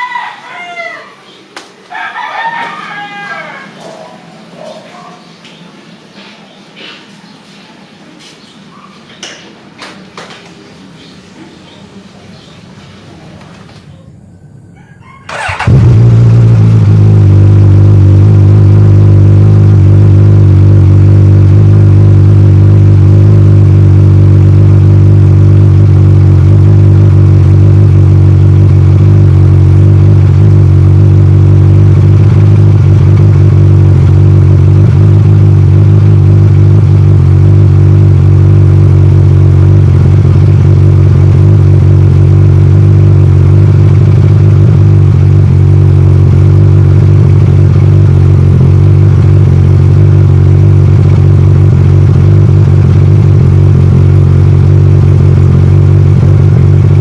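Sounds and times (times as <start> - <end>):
scooter engine droning: 11.4 - 57.0.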